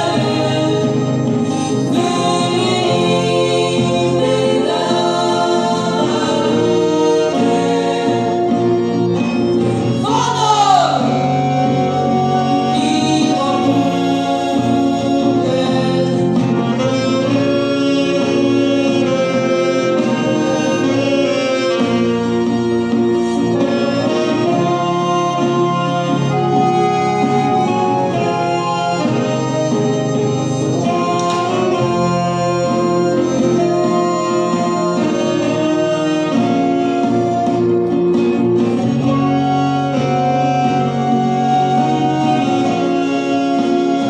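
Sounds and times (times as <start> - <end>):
accordion: 0.0 - 44.0
folk band playing: 0.0 - 44.0
group of voices singing: 0.0 - 44.0.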